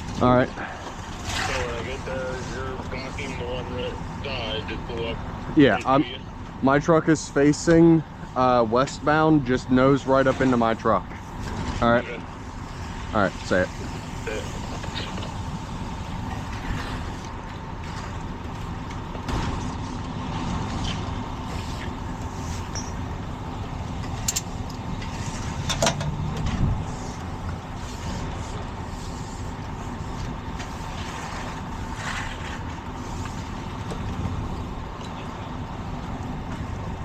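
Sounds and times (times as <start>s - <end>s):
vehicle and road noise: 0.0s - 37.0s.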